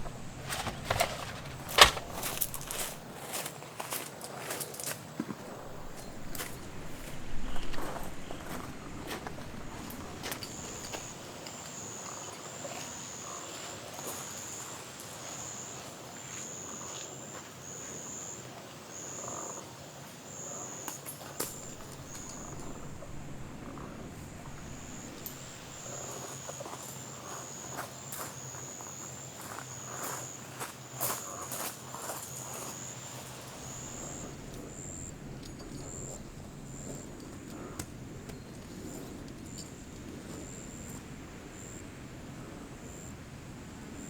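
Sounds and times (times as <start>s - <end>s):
insect chirping trill: 0.0s - 3.5s, 5.4s - 38.5s, 39.4s - 41.0s, 41.6s - 41.9s, 42.8s - 43.2s.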